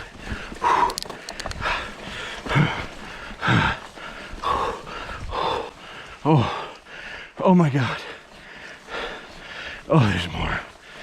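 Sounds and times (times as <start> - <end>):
man breathing hard: 0.0 - 11.0.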